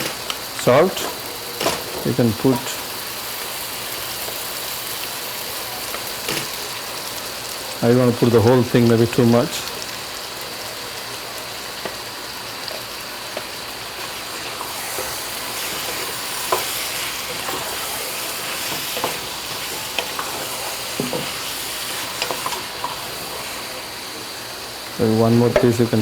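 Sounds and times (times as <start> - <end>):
chicken sizzling in oil: 0.0 - 26.0
utensil stirring against pan: 0.0 - 26.0.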